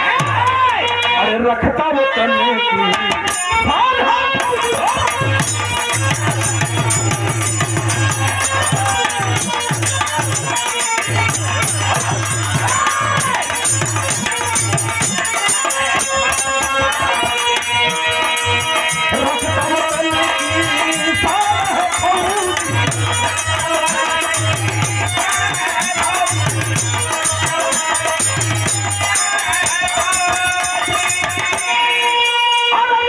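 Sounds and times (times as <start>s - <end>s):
jingling hand percussion: 2.9s - 33.0s
repeating drum beat: 4.4s - 32.0s.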